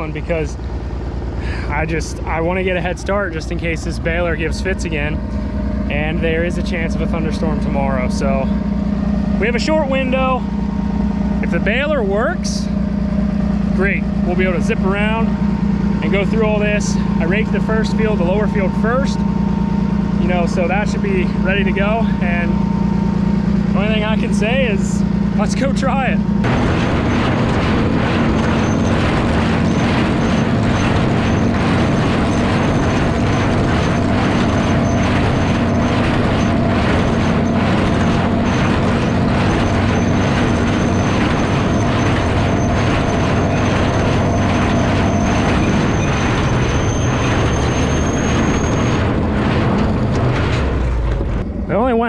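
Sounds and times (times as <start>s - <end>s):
baler mechanical clatter: 0.0s - 52.0s
tractor engine drone: 0.0s - 52.0s.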